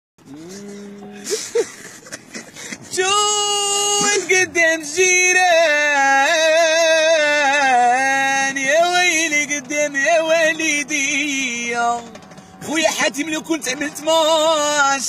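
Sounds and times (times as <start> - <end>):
man singing unaccompanied: 2.9 - 15.0.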